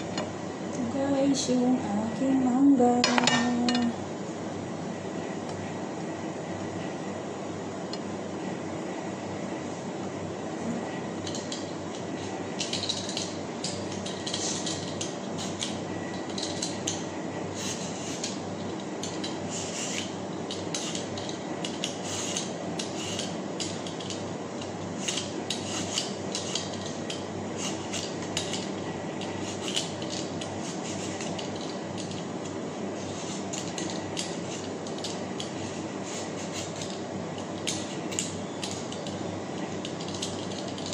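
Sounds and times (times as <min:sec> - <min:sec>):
steady background hum: 0:00.0 - 0:40.9.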